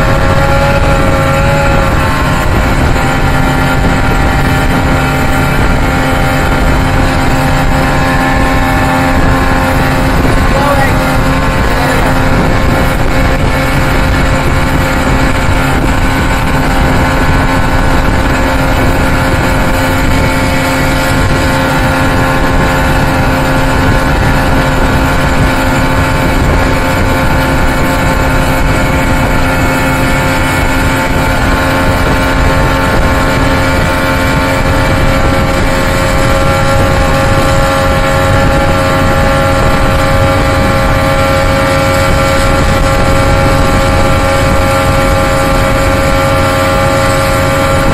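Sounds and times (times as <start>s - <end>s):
outboard motor running: 0.0s - 47.9s
rush of wind and water: 0.0s - 47.9s.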